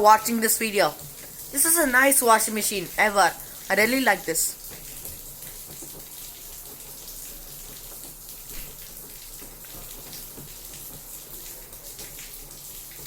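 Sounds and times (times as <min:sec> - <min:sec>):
washing machine sloshing water: 0:00.0 - 0:13.0.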